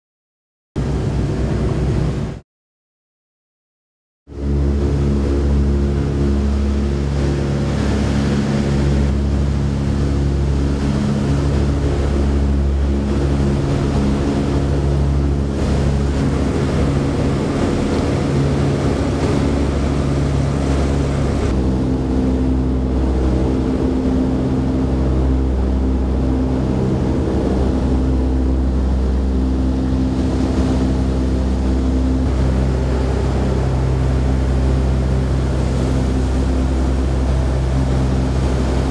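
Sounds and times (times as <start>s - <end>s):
aircraft radial engines droning: 0.8s - 2.4s, 4.3s - 38.9s.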